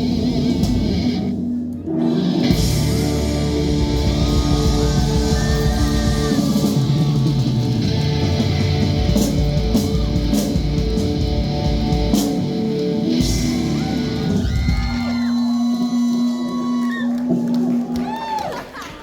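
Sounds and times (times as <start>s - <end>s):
distorted electric guitar: 0.0s - 16.2s
live rock band playing: 0.0s - 16.4s.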